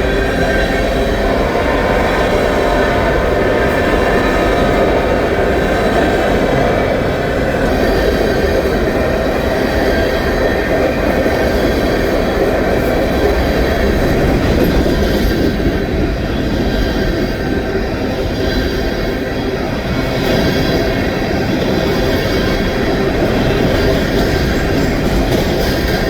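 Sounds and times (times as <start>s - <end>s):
freight train wheels rumbling on rails: 0.0s - 26.0s.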